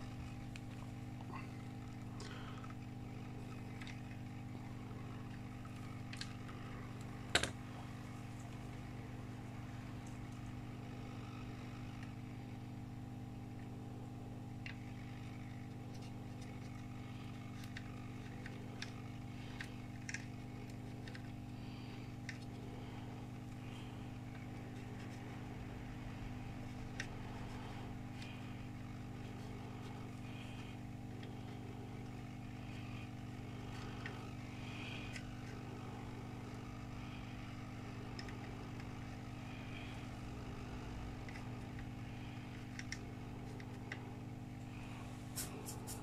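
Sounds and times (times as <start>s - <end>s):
low hum of bench equipment: 0.0s - 46.0s.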